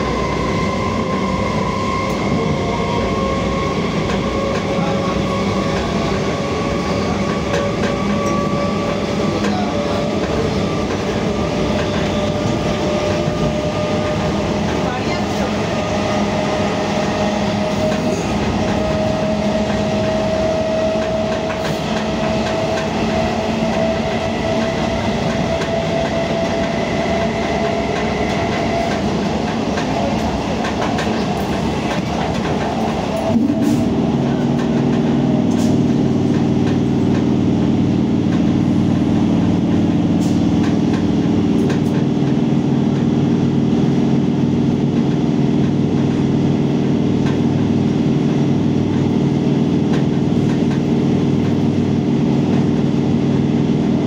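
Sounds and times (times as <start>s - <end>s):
train traction motors whining: 0.0s - 54.0s
wheel and rail noise: 0.0s - 54.0s.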